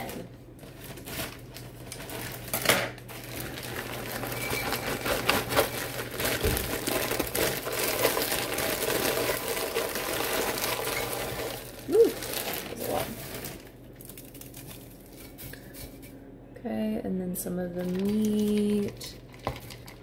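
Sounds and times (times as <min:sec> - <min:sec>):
plastic bag crinkling: 0:00.0 - 0:15.8, 0:17.8 - 0:20.0.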